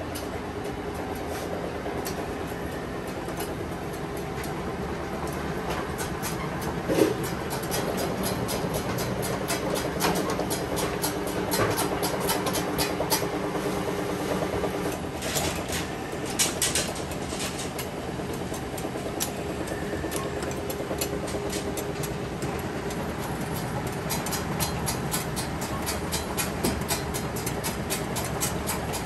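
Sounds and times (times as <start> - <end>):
rapid mechanical clicking and clatter: 0.0 - 29.0.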